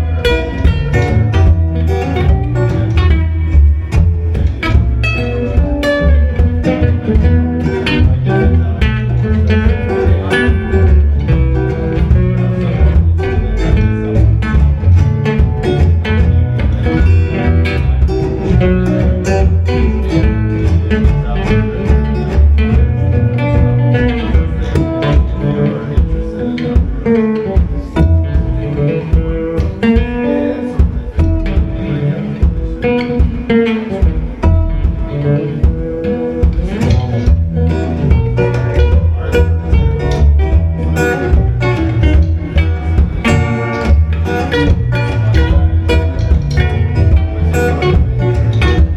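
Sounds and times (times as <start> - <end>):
double bass: 0.0 - 48.9
plucked guitar: 0.0 - 48.9.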